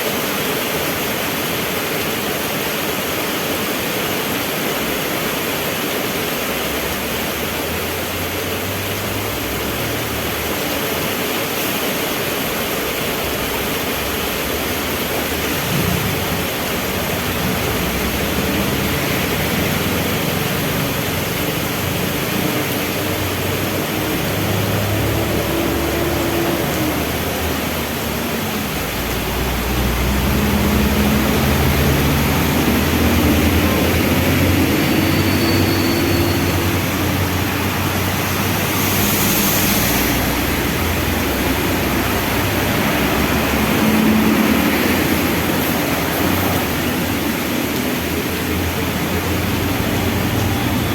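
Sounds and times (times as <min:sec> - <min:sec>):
heavy rain falling: 0:00.0 - 0:50.9
vehicle engines in traffic: 0:00.0 - 0:50.9.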